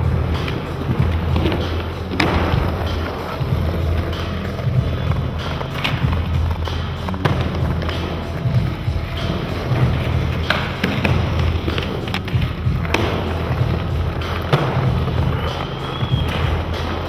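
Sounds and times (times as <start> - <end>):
skateboard clacks: 0.0 - 17.0
skateboard wheels rolling on paving: 0.0 - 17.0.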